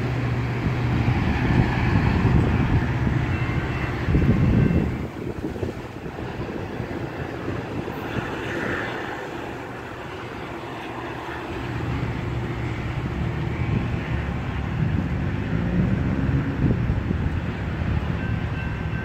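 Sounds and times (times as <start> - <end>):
diesel locomotive low drone: 0.0 - 19.0
train cars rumbling over track: 0.0 - 19.0.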